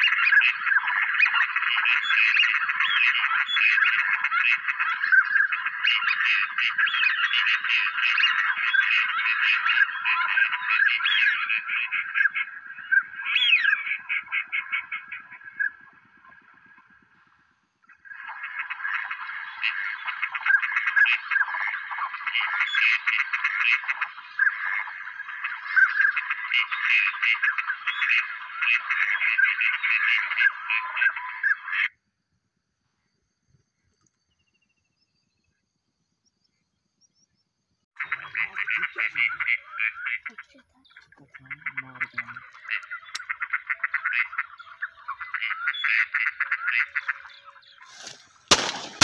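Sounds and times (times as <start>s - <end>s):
ducks quacking: 0.0s - 17.1s, 17.9s - 32.0s, 38.0s - 49.0s.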